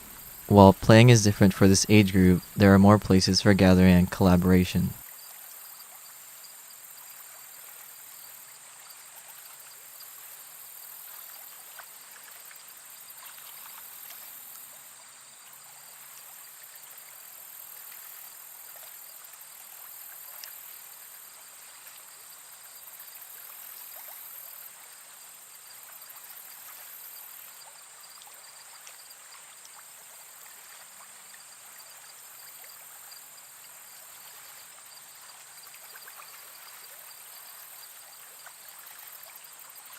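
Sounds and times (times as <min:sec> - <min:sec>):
high insect chorus: 0:05.0 - 0:39.9
water trickling in a stream: 0:05.0 - 0:39.9.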